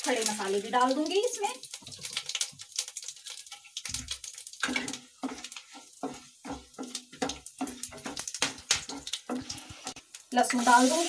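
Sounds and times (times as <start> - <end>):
spatula stirring in oil: 0.0 - 11.0
spices sizzling in hot oil: 0.0 - 11.0.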